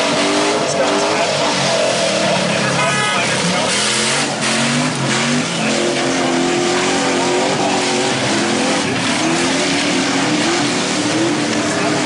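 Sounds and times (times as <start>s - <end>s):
truck engines racing: 0.0s - 12.0s.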